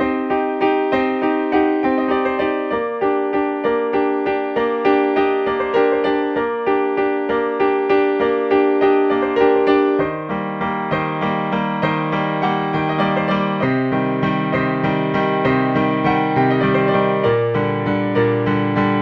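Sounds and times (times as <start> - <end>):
electric piano chords: 0.0 - 19.0.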